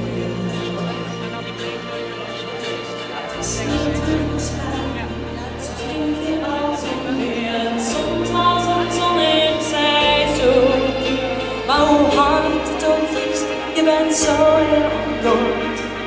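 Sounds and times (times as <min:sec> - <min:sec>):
woman singing: 0:00.0 - 0:01.5, 0:03.4 - 0:16.0
pop backing track: 0:00.0 - 0:16.0.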